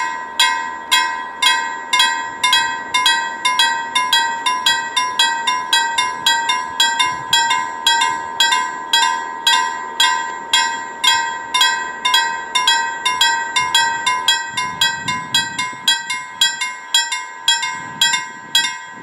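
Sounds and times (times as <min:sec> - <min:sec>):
level crossing bell ringing: 0:00.0 - 0:19.0.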